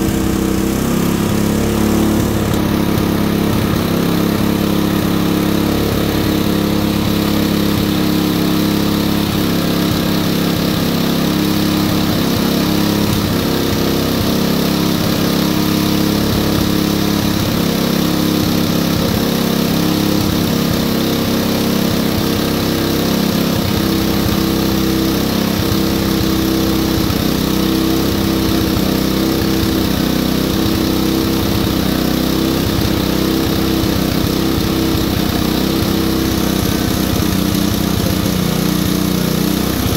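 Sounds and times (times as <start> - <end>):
portable generator running: 0.0 - 39.9.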